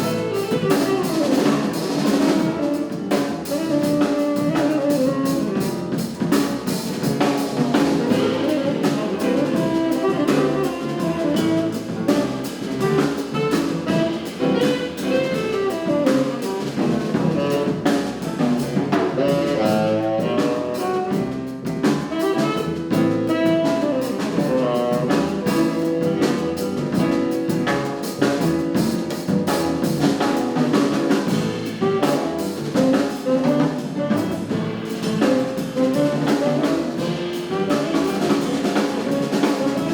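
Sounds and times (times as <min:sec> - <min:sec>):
cymbal and drum strokes: 0:00.0 - 0:20.6, 0:22.0 - 0:39.9
jazz quartet playing: 0:00.0 - 0:39.9.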